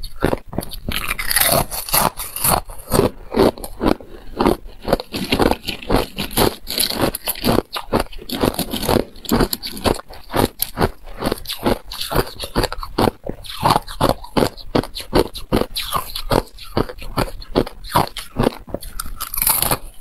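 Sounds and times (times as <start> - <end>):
ice crunching and cracking: 0.1 - 20.0.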